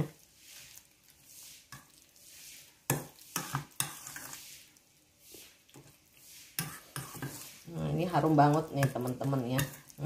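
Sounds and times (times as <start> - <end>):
wet mixing sound: 0.0 - 10.0.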